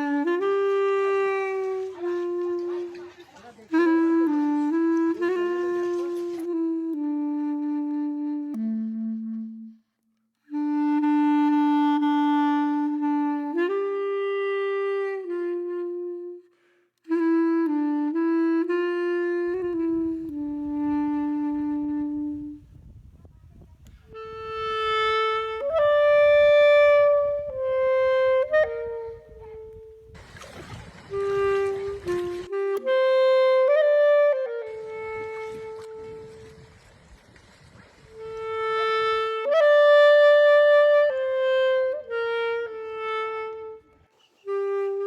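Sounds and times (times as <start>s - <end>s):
slow solo woodwind melody: 0.0s - 45.0s.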